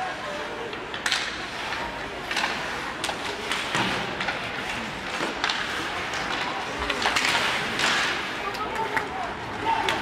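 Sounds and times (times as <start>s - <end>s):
hockey sticks clacking on puck: 0.4s - 10.0s.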